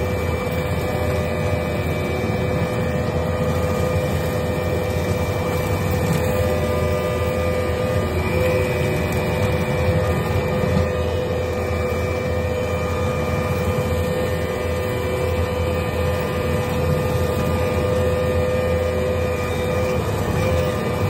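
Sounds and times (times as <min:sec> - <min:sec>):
engine droning under load: 0:00.0 - 0:21.0
hydraulic motor whine: 0:00.0 - 0:21.0.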